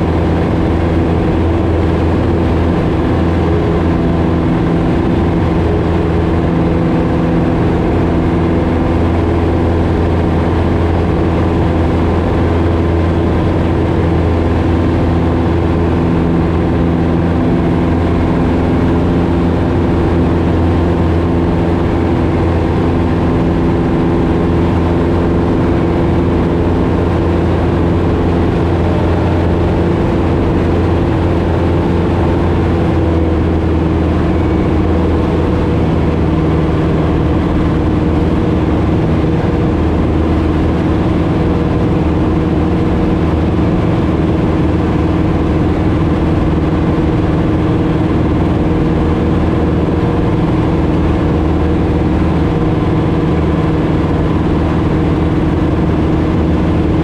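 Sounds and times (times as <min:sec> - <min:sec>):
small plane engine and propeller: 0:00.0 - 0:57.0.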